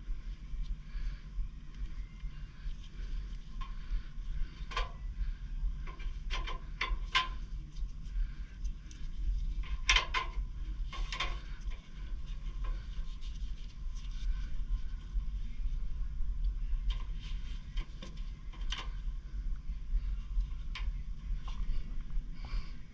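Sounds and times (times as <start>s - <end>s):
steady low rumble: 0.0s - 22.9s.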